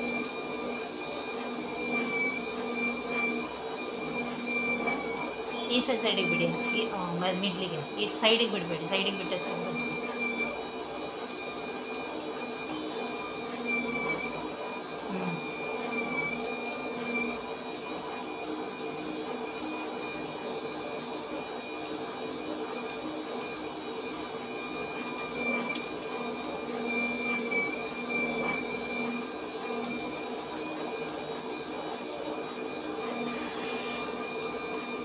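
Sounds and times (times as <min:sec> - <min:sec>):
machine motor hum with whine: 0:00.0 - 0:35.0.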